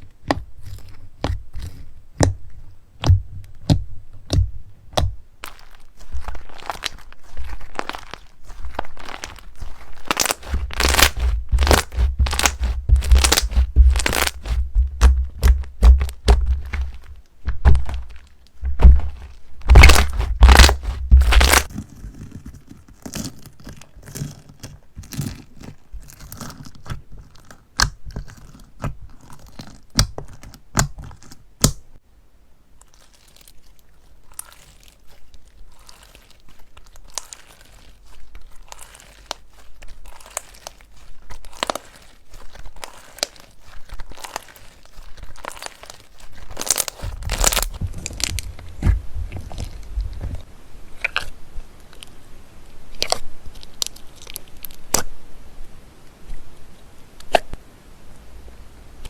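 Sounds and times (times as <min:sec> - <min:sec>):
slime squished crackling: 0:00.0 - 0:31.9, 0:32.8 - 0:50.3.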